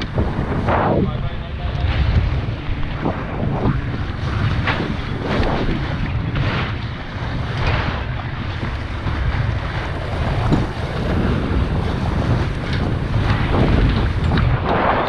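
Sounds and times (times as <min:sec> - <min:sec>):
water rushing past hull: 0:00.0 - 0:15.0
wind buffeting microphone: 0:00.0 - 0:15.0.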